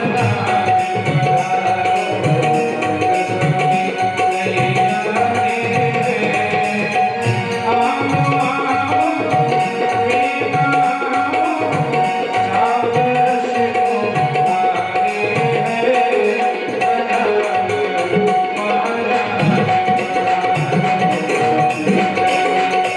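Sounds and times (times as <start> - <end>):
tabla rhythm: 0.0 - 22.9.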